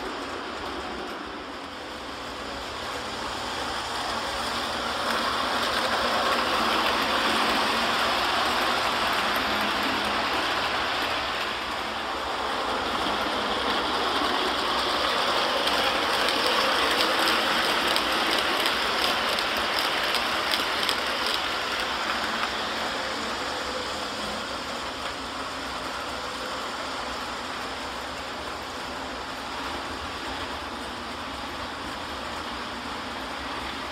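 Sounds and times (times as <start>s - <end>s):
model train wheels rumbling: 0.0s - 33.9s.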